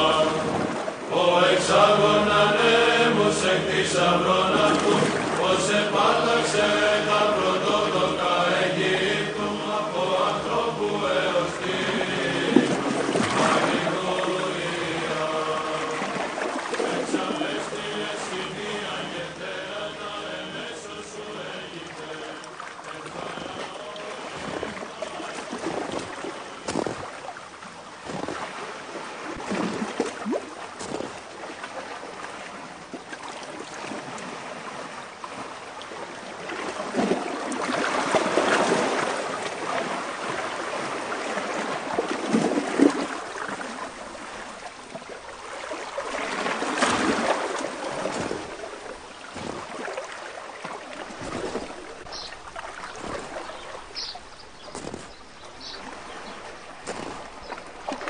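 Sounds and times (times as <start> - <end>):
water splashing and lapping: 0.0 - 58.0.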